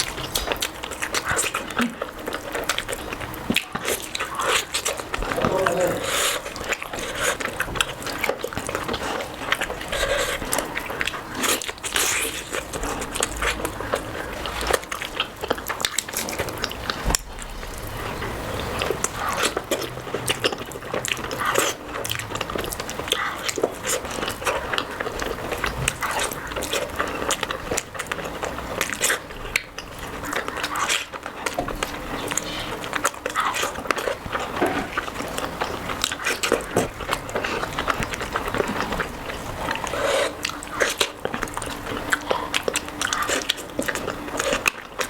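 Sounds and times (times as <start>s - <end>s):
wet chewing and lip-smacking: 0.0s - 45.0s.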